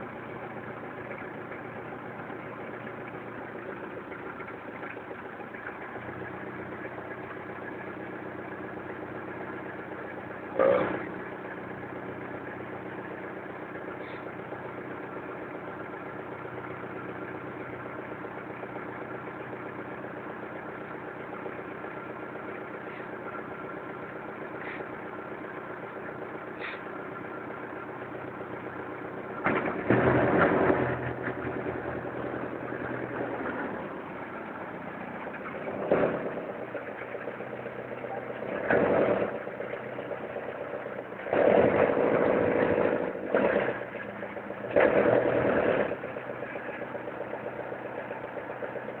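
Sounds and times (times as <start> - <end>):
boat engine idling: 0.0 - 49.0.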